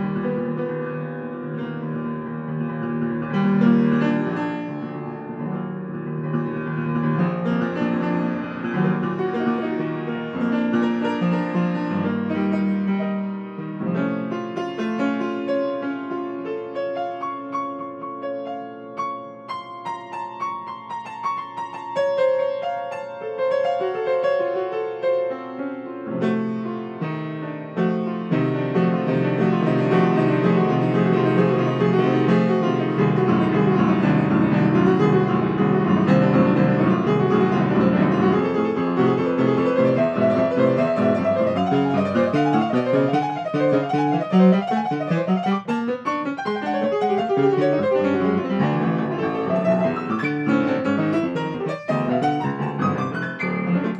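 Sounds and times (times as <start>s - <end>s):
solo grand piano: 0.0s - 53.9s.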